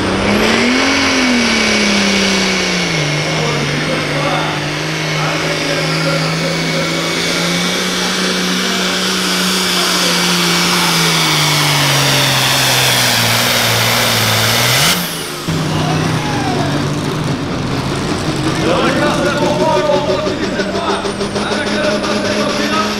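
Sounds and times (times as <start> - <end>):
second tractor engine: 0.0 - 22.9
tractor diesel engine at full throttle: 0.0 - 22.9.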